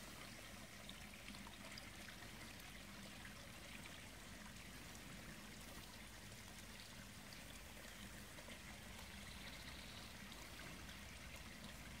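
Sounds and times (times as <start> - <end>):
water splashing into pond: 0.0 - 12.0.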